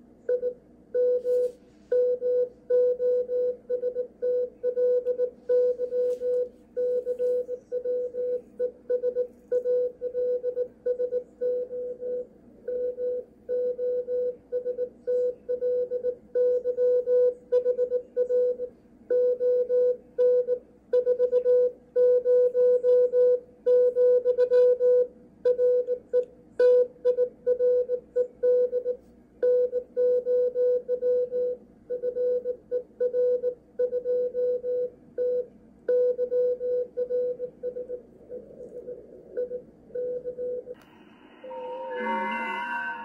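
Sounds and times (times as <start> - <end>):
faint radio band noise: 0.0 - 43.0
morse code beeps: 0.3 - 40.8.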